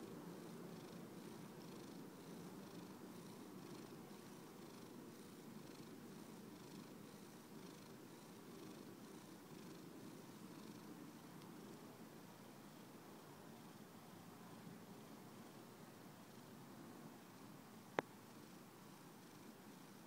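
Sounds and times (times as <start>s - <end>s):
cat purring: 0.0s - 17.6s.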